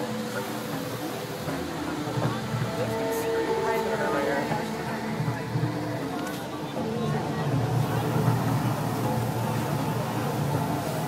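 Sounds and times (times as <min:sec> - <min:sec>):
sustained droning tones: 0:00.0 - 0:11.0.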